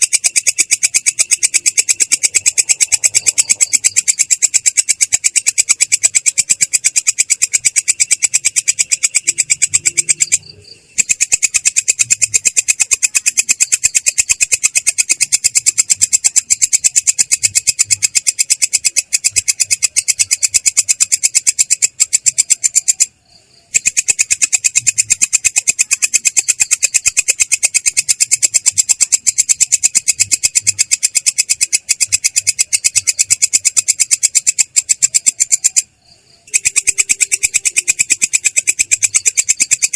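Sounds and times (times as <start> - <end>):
katydid trilling: 0.0 - 39.9.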